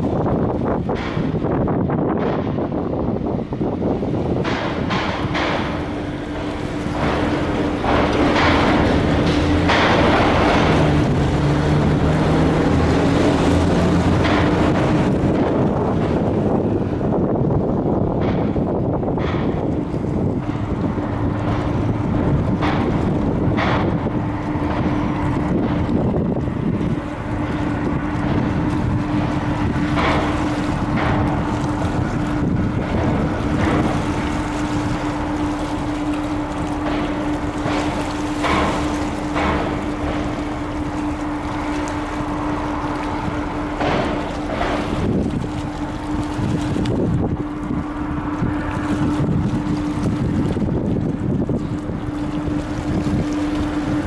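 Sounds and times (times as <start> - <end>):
ship engine hum: 0.0 - 54.0
splashy water sounds: 0.0 - 54.0
wind rumbling on microphone: 0.0 - 54.0.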